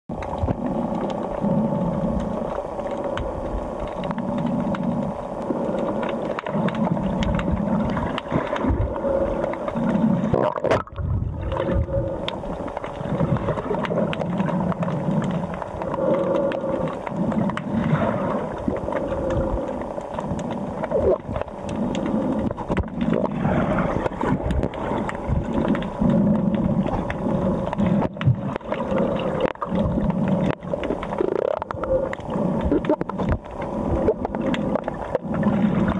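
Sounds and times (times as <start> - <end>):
muffled underwater rumble: 0.1 - 35.9
steady underwater hum: 0.1 - 35.9.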